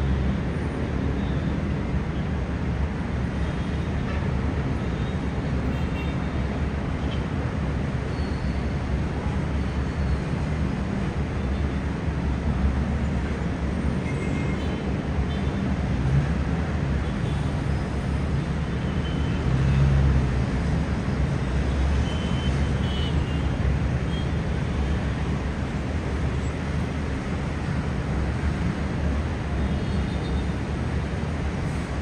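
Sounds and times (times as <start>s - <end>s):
distant city traffic hum: 0.0s - 32.0s.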